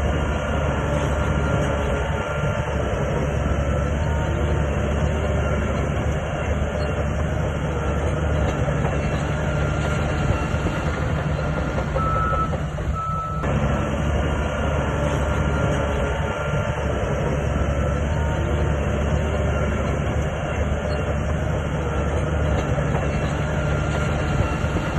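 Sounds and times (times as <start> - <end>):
bulldozer diesel engine running: 0.0 - 24.9
tracks clattering: 0.0 - 24.9.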